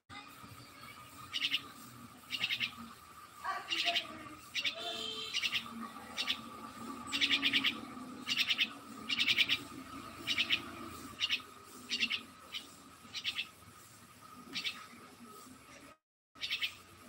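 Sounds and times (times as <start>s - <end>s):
bird chirping in bursts: 1.0s - 15.0s, 16.4s - 17.0s.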